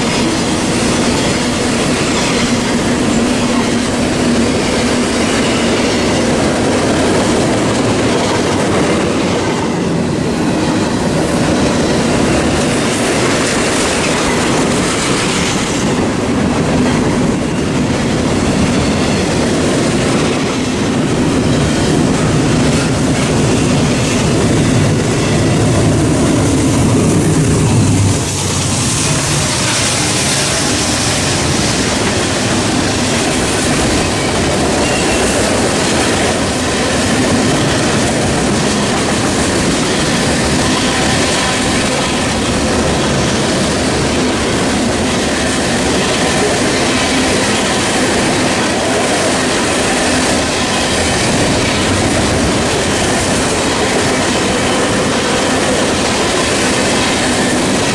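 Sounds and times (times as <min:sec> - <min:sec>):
freight train rolling clatter: 0:00.0 - 0:57.9.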